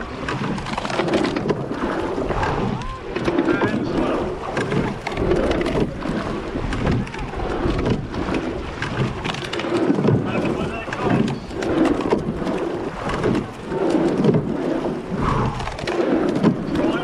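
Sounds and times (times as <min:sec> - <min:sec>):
oar strokes in water: 0:00.0 - 0:17.0
water rushing past hull: 0:00.0 - 0:17.0
wind buffeting microphone: 0:00.0 - 0:17.0.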